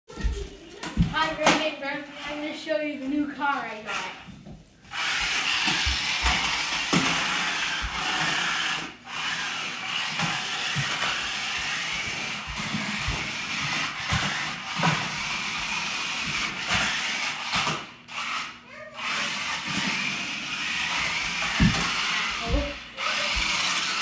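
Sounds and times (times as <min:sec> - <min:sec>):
toy car electric motors whining: 0:03.6 - 0:24.0.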